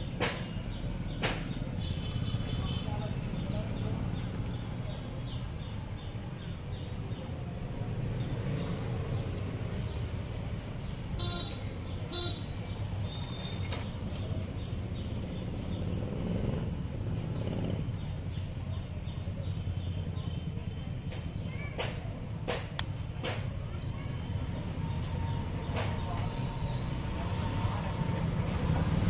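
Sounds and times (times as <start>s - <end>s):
street traffic rumble: 0.0s - 29.0s.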